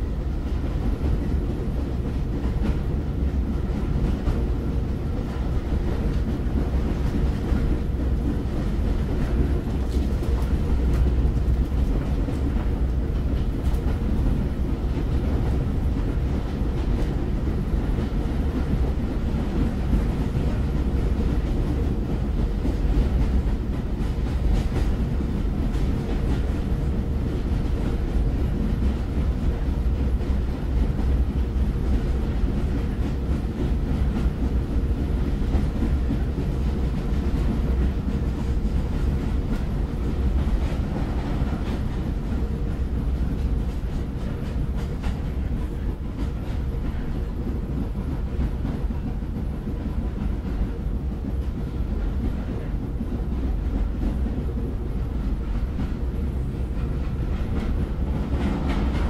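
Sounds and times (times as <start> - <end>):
train rumble: 0.0 - 59.0
wheels clattering on rails: 0.0 - 59.0.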